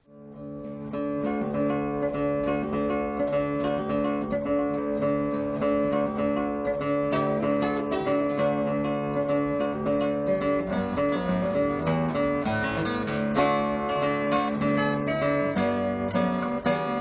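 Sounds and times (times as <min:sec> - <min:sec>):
acoustic guitar picked and strummed: 0:00.0 - 0:17.0.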